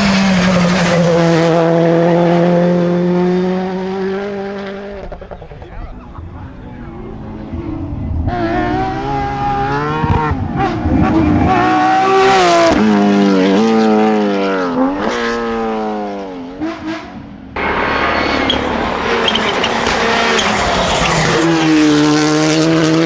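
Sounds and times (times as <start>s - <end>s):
rally car engine at high revs: 0.0s - 23.0s.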